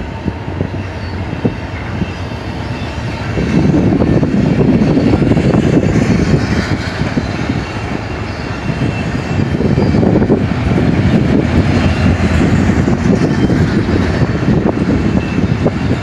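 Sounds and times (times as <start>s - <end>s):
steel train wheels rumbling on rails: 0.0s - 16.0s.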